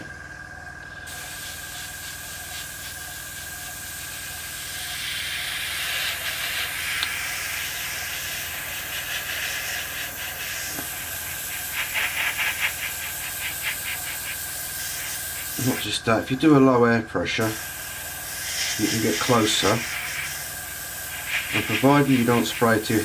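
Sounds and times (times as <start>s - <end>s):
rapid airbrush fluttering: 1.1s - 16.4s, 17.4s - 23.0s
airbrush hiss: 1.1s - 16.7s, 17.4s - 23.0s.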